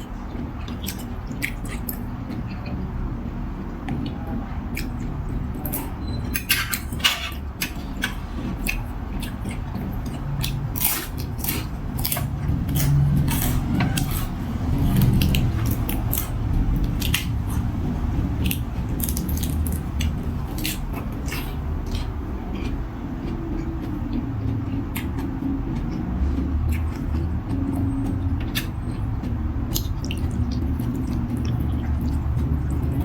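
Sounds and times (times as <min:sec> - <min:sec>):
person chewing and crunching: 0:00.0 - 0:03.1, 0:03.8 - 0:33.0
low steady rumble: 0:00.0 - 0:33.0.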